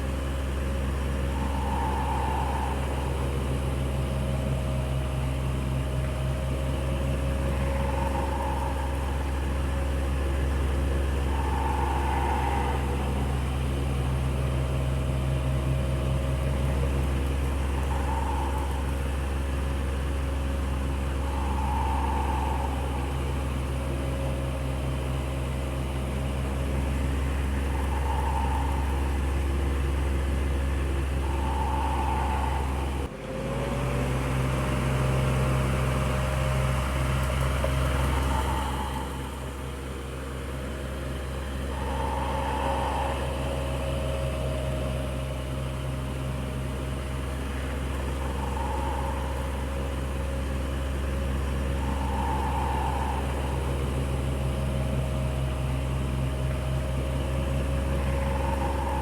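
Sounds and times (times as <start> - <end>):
electric fan running: 0.0 - 33.1, 33.8 - 59.0.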